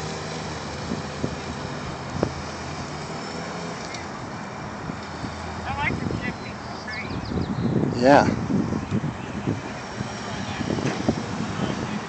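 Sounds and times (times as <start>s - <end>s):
outdoor noise: 0.0s - 12.0s.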